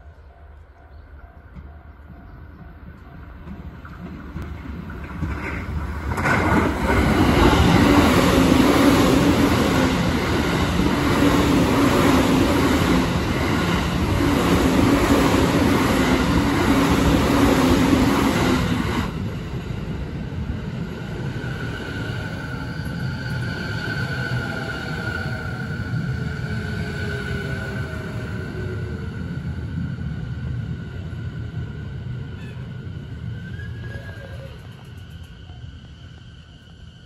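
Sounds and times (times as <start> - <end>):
train hum with faint whine: 0.0 - 37.0
train wheels rushing on rail: 1.4 - 37.0.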